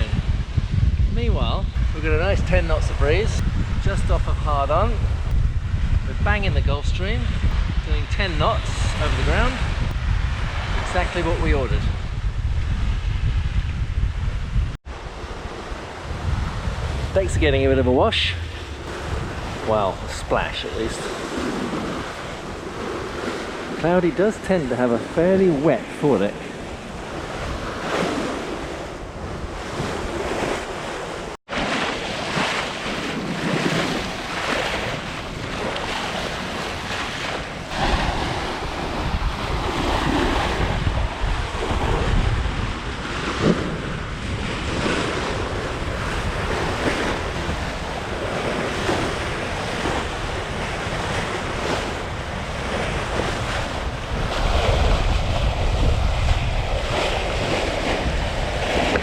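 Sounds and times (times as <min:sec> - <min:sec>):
water rushing along boat hull: 0:00.0 - 0:12.1, 0:14.8 - 0:59.0
wind buffeting microphone: 0:00.0 - 0:59.0.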